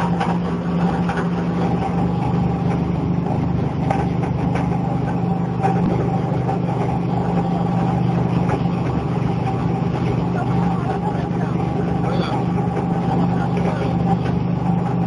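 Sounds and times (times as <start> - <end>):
machine hum: 0.0 - 15.0
thin steady whine: 0.0 - 15.0.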